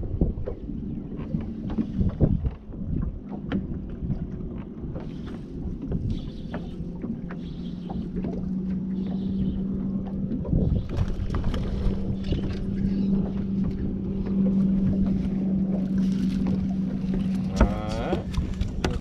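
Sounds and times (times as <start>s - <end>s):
water lapping against boat hull: 0.0s - 19.0s
wind on microphone: 0.0s - 19.0s.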